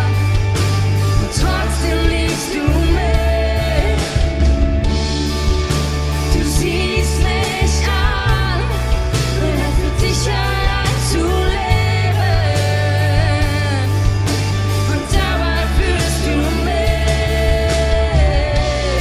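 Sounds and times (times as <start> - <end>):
person singing: 0.0 - 4.7, 6.1 - 19.0
heavy bass and drums: 0.0 - 19.0
live rock band playing: 0.0 - 19.0.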